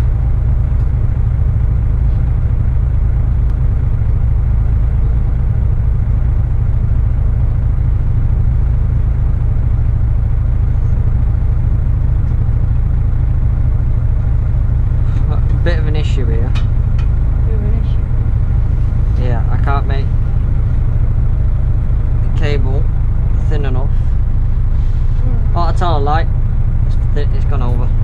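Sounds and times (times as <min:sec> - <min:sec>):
bus diesel engine idling: 0:00.0 - 0:28.0.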